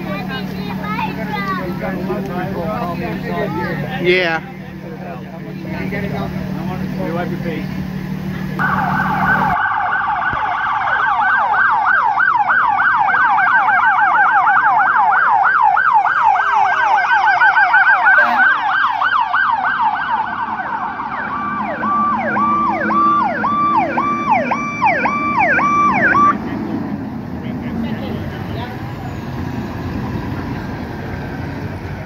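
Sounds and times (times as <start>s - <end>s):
fire truck sirens yelping: 0.0s - 32.0s.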